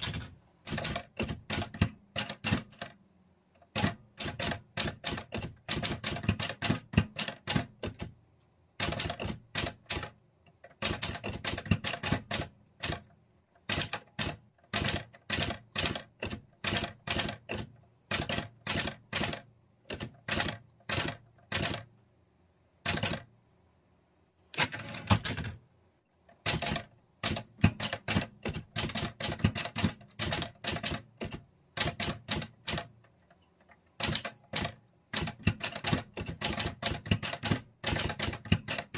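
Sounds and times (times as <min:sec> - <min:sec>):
typewriter keys clacking: 0:00.0 - 0:03.0, 0:03.7 - 0:08.1, 0:08.8 - 0:21.8, 0:22.9 - 0:23.2, 0:24.6 - 0:25.6, 0:26.4 - 0:38.9.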